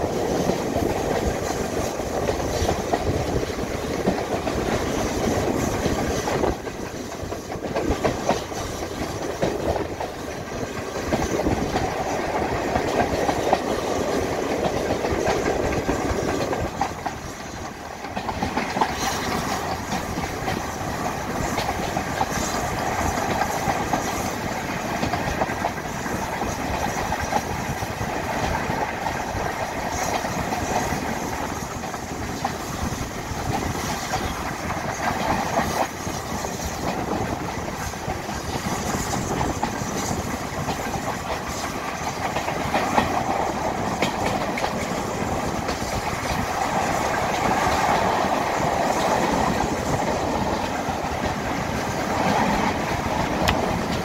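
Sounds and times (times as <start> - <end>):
train running rumble: 0.0 - 54.0
train wheels clattering over rails: 0.0 - 54.0
wind rush: 0.0 - 54.0.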